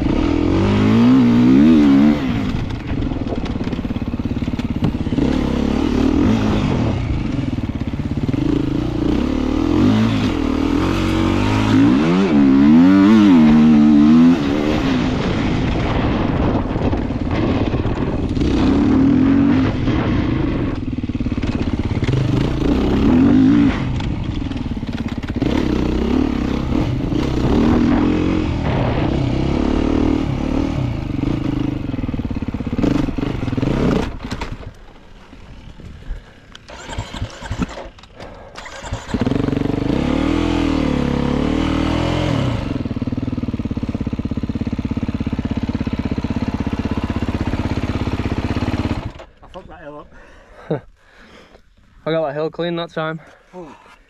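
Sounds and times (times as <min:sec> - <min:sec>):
motorcycle engine revving: 0:00.0 - 0:49.4.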